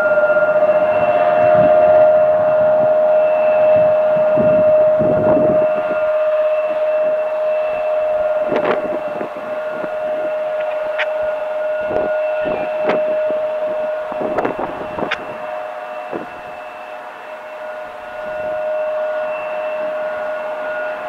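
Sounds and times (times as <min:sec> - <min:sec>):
distant warning siren steady tone: 0:00.0 - 0:21.0.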